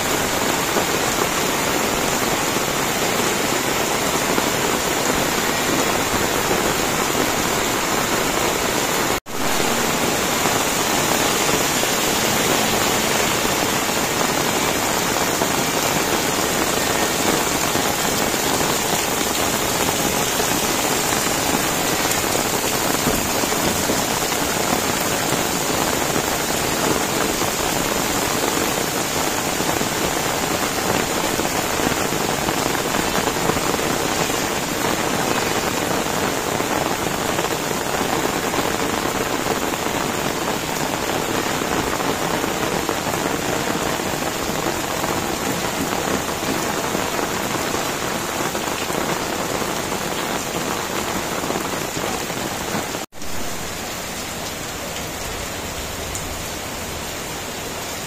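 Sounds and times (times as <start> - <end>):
heavy rain on concrete and roofs: 0.0 - 58.0.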